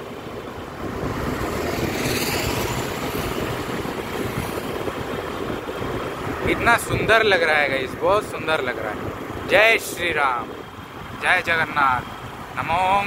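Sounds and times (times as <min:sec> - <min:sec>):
vehicle road and wind noise: 0:00.0 - 0:13.0.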